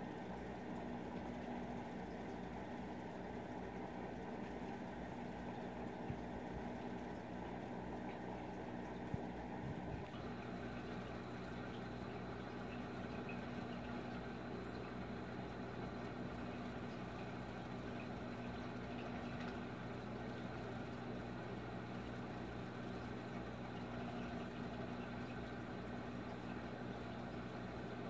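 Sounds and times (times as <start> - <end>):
low electrical hum: 0.0 - 28.0
circulating water rushing: 3.3 - 28.0.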